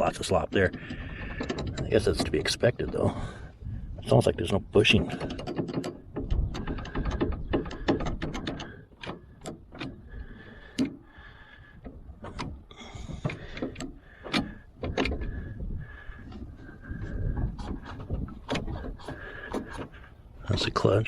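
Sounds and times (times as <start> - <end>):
shift linkage clicking and clunking: 0.0 - 3.3, 4.8 - 11.0, 11.8 - 15.5, 16.3 - 21.0.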